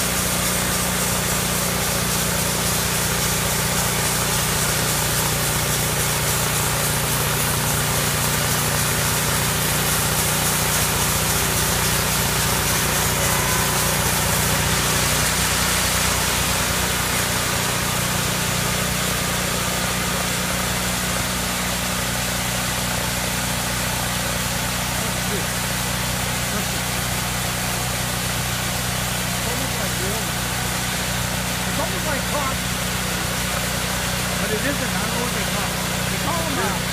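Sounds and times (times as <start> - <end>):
band saw cutting log: 0.0 - 36.9
sawmill engine running: 0.0 - 36.9.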